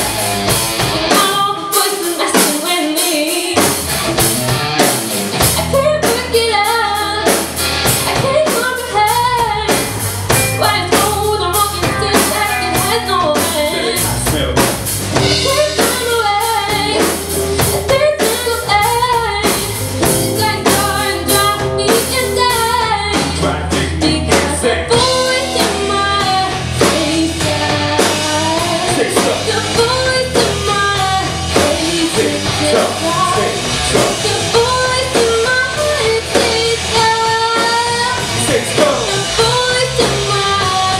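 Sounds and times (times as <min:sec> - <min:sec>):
rock band playing live: 0:00.0 - 0:40.9
person singing: 0:08.0 - 0:40.9.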